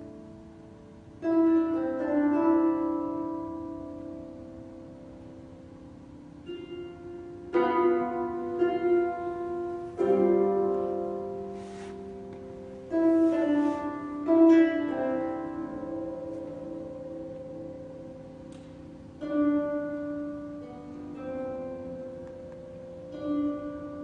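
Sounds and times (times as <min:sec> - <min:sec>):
harp plucked notes and chords: 0:00.0 - 0:24.0.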